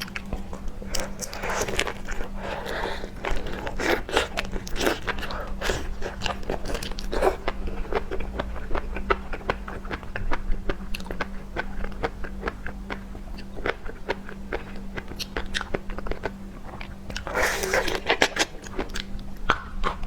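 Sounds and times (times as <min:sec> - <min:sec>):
wet chewing with crunches: 0:00.0 - 0:20.0.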